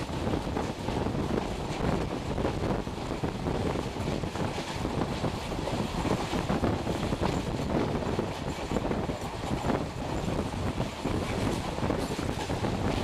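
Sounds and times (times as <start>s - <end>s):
train running noise: 0.0s - 13.0s
wind rushing over microphone: 0.0s - 13.0s.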